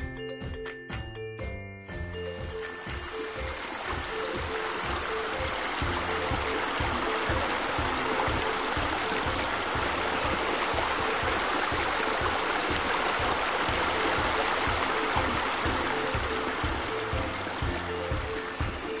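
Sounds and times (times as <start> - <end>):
music with low beat: 0.0 - 19.0
rushing splashing water: 2.4 - 19.0.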